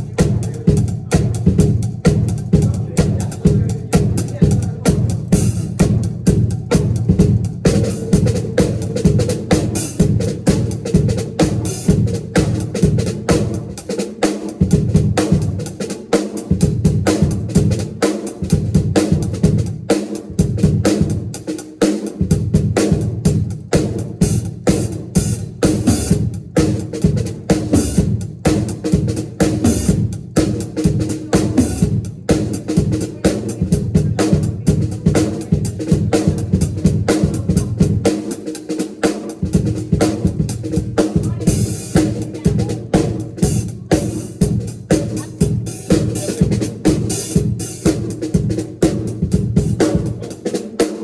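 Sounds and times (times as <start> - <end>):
drum kit played fast: 0.0 - 51.0.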